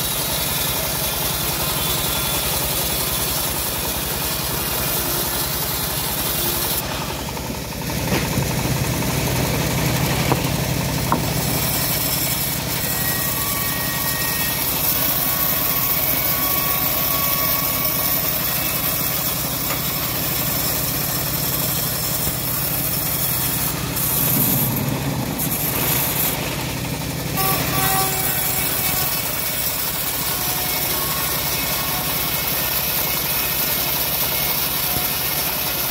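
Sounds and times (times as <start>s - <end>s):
blade sawing wood hiss: 0.0s - 7.4s, 9.0s - 35.9s
bandsaw mill drive humming: 0.0s - 35.9s.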